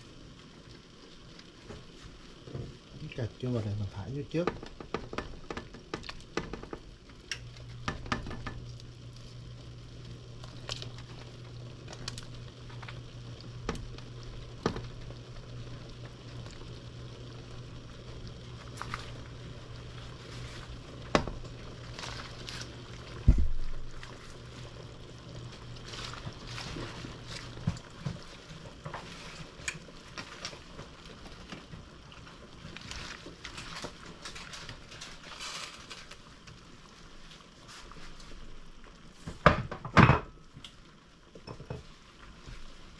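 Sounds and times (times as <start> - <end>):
broth simmering in a pot: 0.0 - 42.9.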